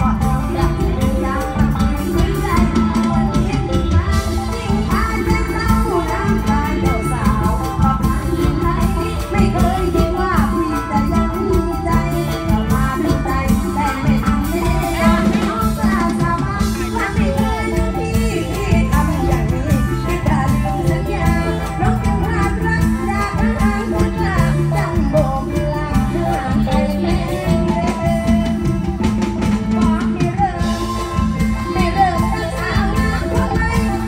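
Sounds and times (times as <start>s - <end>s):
band music over loudspeakers: 0.0s - 34.0s
bass and drum beat: 0.0s - 34.0s
woman singing into microphone: 0.0s - 34.0s.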